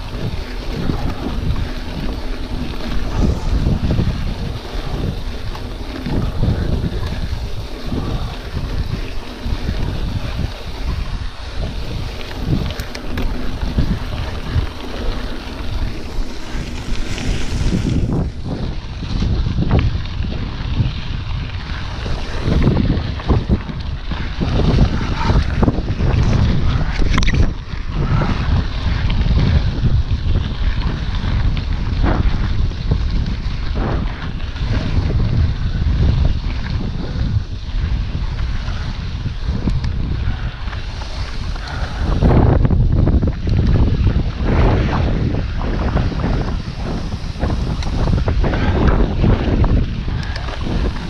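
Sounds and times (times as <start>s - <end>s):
bike knocking and rattling: 0.0s - 51.0s
wind buffeting microphone: 0.0s - 51.0s.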